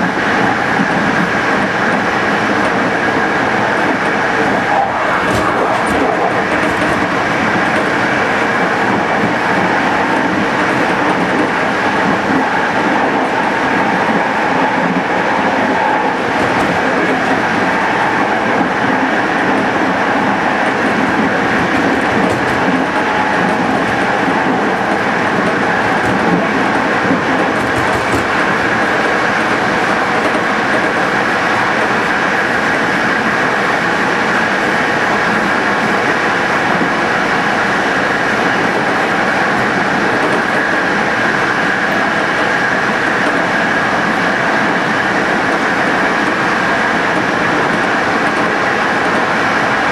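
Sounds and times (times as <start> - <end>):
train wheels rolling on rail: 0.0 - 49.9.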